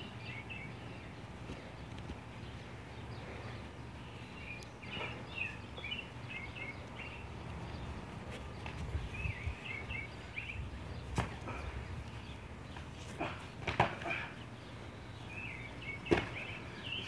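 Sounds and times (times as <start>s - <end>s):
bird chirping: 0.0s - 13.4s, 14.1s - 17.0s
low steady hum: 0.0s - 17.0s.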